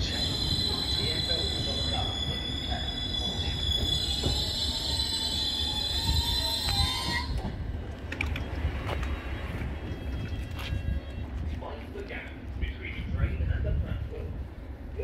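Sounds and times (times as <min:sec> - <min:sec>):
electric train whine and rumble: 0:00.0 - 0:15.0.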